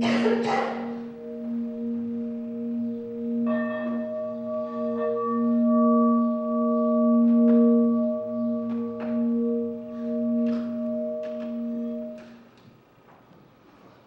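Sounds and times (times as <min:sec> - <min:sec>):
singing bowl ringing: 0:00.8 - 0:12.4.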